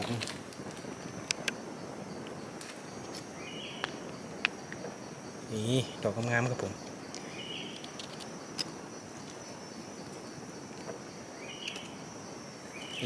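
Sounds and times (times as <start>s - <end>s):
even hiss: 0.0s - 13.0s
insects droning: 0.0s - 13.0s.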